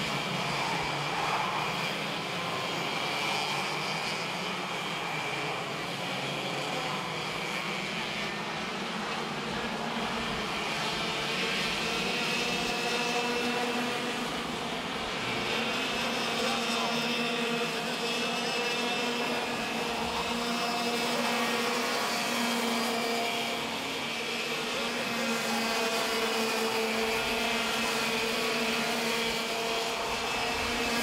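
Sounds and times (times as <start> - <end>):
go-kart engines whining: 0.0 - 31.0.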